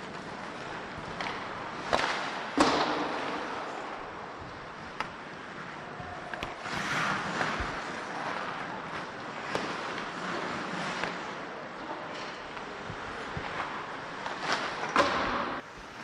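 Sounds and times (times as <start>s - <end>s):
pucks striking boards: 0.0s - 16.0s
skates scraping ice: 0.0s - 16.0s.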